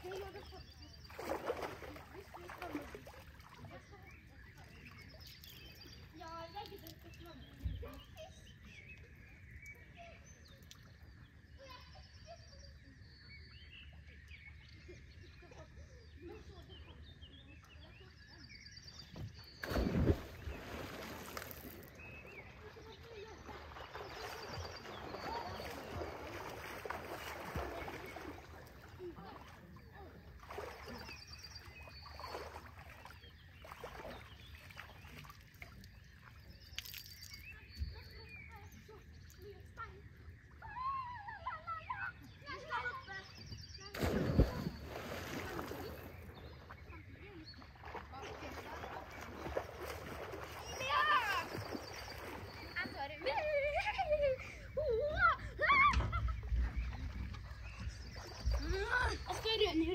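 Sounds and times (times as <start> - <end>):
faint lake water sloshing: 0.0 - 59.9
small birds chirping and trilling: 0.0 - 59.9.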